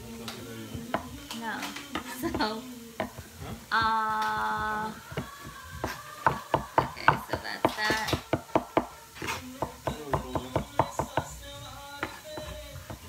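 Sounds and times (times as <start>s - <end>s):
knife chopping on wooden board: 2.0s - 13.0s.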